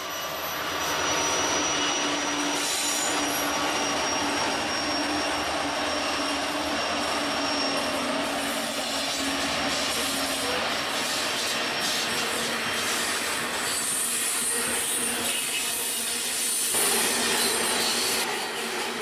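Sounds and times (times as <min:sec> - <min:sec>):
diesel locomotive engines: 0:00.0 - 0:19.0
wheels on rail: 0:00.0 - 0:19.0.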